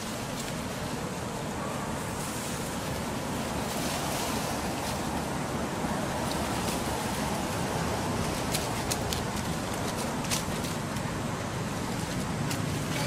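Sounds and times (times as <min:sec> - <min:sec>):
wind rushing across microphone: 0:00.0 - 0:13.0.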